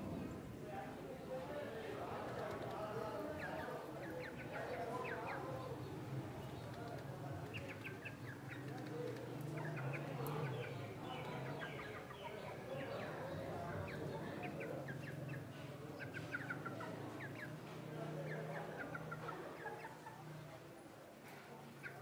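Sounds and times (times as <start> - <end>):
chickens clucking: 2.0 - 20.6, 21.3 - 22.0.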